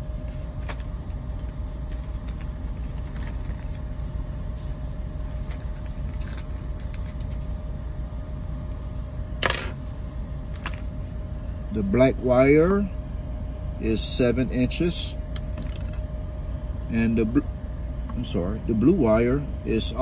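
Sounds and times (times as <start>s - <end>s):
faint hum: 0.0s - 20.0s
low background rumble: 0.0s - 20.0s.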